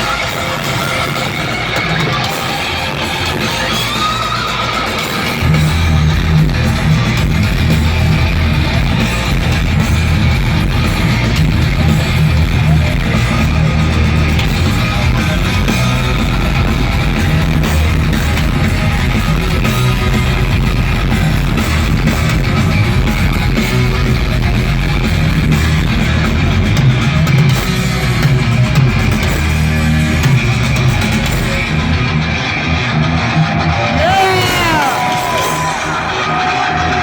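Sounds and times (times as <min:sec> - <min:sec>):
heavy metal band playing: 0:00.0 - 0:37.0.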